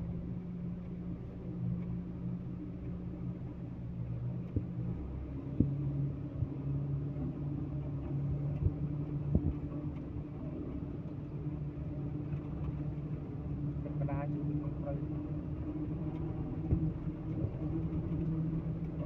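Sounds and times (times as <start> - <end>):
heavy vehicle engine running: 0.0 - 19.0.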